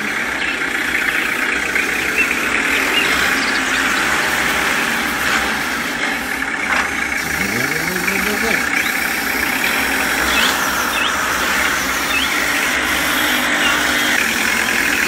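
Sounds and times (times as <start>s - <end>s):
toy tractor motor whirring: 0.0s - 15.0s
wheels churning in mud: 0.0s - 15.0s.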